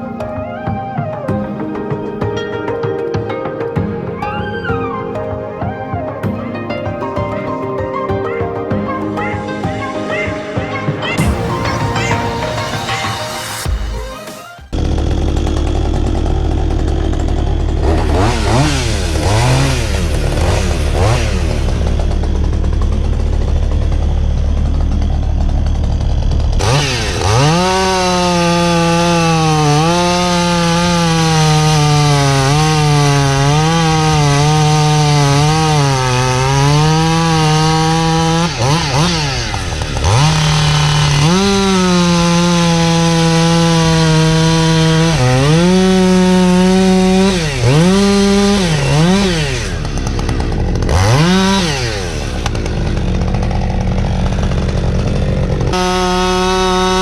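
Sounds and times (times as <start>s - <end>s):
chainsaw cutting wood: 6.7s - 14.0s, 14.7s - 57.0s.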